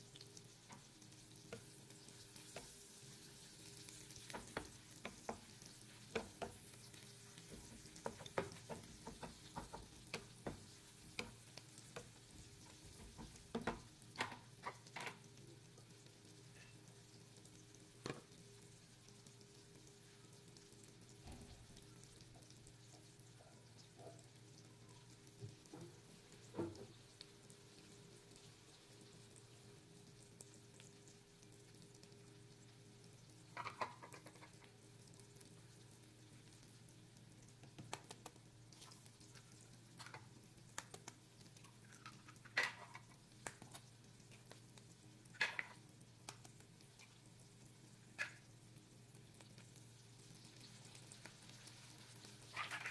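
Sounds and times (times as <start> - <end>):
oil popping and crackling: 0.0 - 23.0, 28.2 - 52.9
chorizo sizzling in a pan: 0.0 - 52.9
faint steady hum: 0.0 - 52.9.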